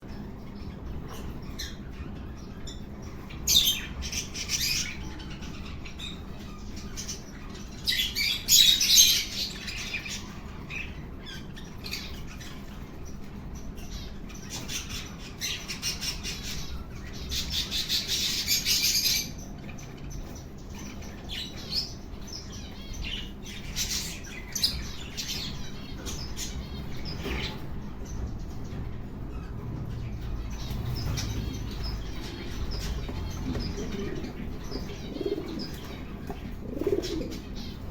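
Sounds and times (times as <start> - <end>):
low steady background noise: 0.0 - 37.9
small birds chirping: 0.0 - 37.9.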